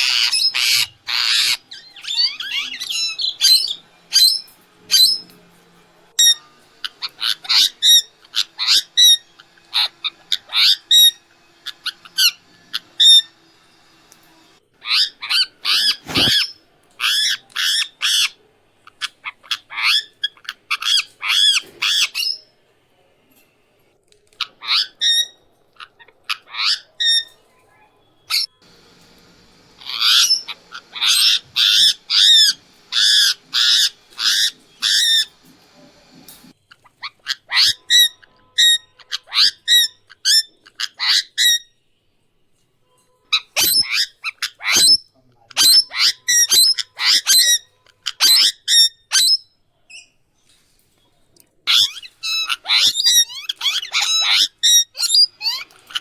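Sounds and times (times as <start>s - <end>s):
parakeet squawking: 0.0s - 5.4s, 6.1s - 22.4s, 24.4s - 27.4s, 28.2s - 41.6s, 43.3s - 45.0s, 45.6s - 49.4s, 51.7s - 56.0s.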